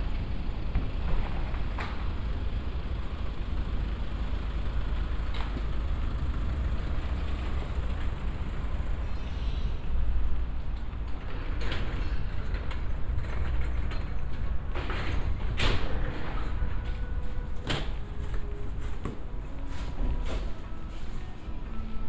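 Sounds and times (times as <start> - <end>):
traffic rumble: 0.0 - 21.8.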